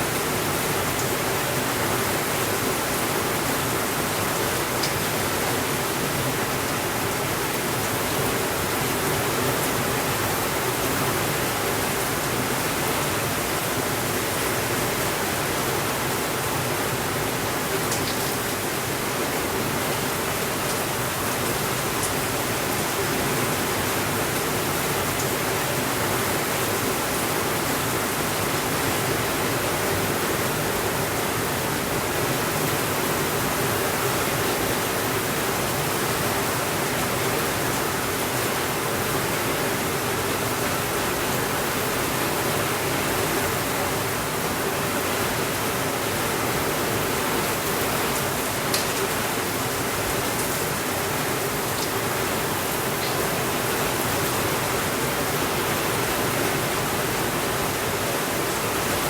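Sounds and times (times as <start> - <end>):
heavy rain on a window: 0.0 - 59.0.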